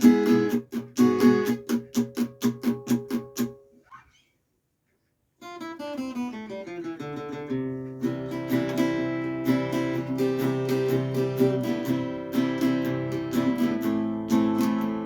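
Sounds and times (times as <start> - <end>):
acoustic guitar strummed chords: 0.0 - 3.6, 5.4 - 15.0
acoustic guitar plucked notes: 0.0 - 4.0, 5.4 - 15.0.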